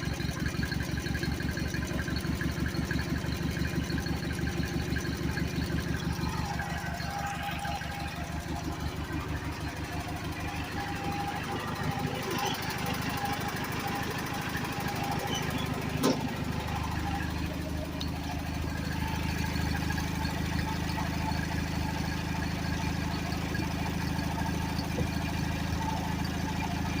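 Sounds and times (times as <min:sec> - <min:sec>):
garden tractor engine running: 0:00.0 - 0:27.0.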